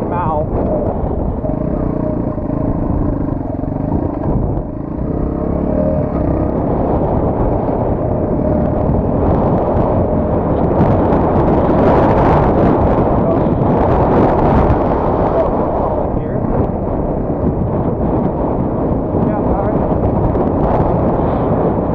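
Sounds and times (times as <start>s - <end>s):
motorcycle running: 0.0s - 21.9s
wind buffeting microphone: 0.0s - 21.9s.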